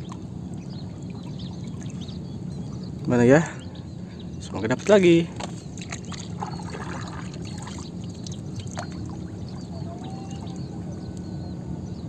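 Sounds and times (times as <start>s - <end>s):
water lapping against wooden boat: 0.0s - 11.4s.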